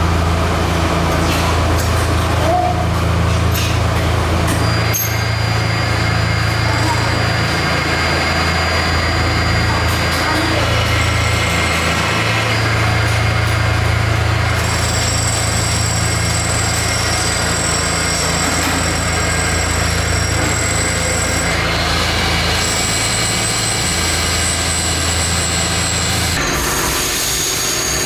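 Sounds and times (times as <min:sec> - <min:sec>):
factory machinery hum: 0:00.0 - 0:28.0
high-pitched machine whines: 0:04.4 - 0:28.0.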